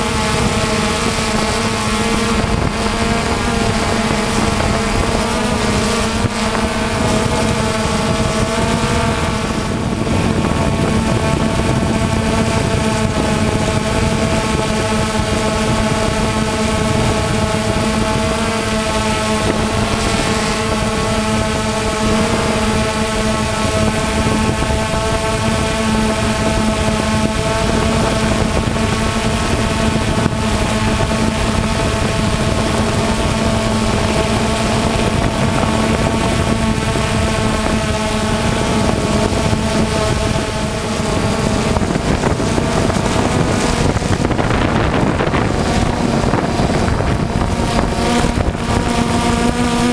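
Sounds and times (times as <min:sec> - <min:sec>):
constant rushing noise: 0:00.0 - 0:49.9
motor humming: 0:00.0 - 0:49.9.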